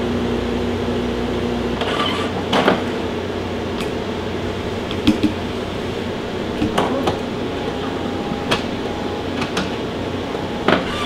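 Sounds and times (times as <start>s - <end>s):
espresso machine humming: 0.0s - 11.0s.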